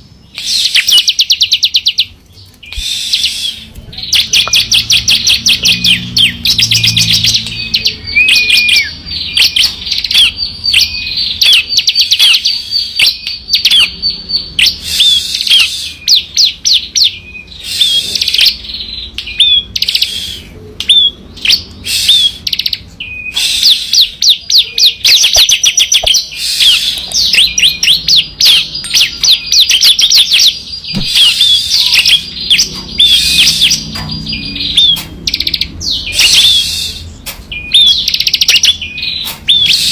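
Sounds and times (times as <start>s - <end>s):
bird singing rattling trills: 0.0s - 39.9s.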